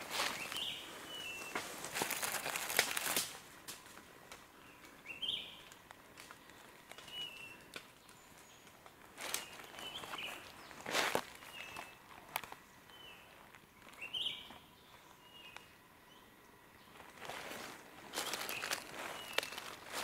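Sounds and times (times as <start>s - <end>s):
rustling in dry leaf litter: 0.0s - 4.0s, 5.0s - 14.1s, 16.9s - 20.0s.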